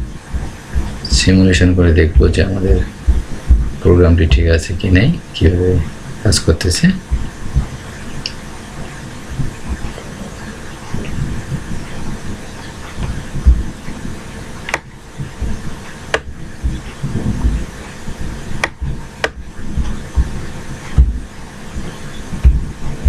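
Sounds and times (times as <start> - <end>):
irregular thumps: 0.0 - 4.7, 7.0 - 10.2, 10.9 - 23.0
low uneven rumble: 0.0 - 23.0.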